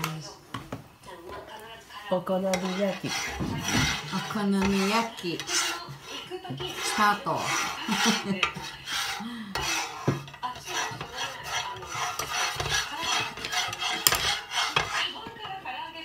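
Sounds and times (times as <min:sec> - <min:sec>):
spatula scraping a griddle: 0:02.2 - 0:16.0.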